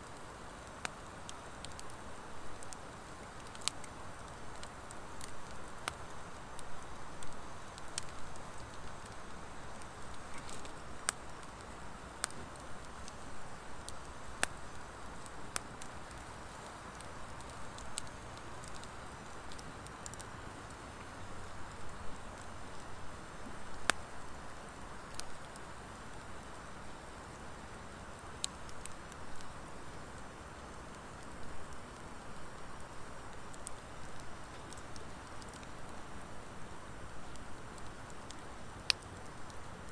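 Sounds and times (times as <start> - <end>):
logs crackling and popping: 0.0 - 39.9
wood fire hissing: 0.0 - 39.9.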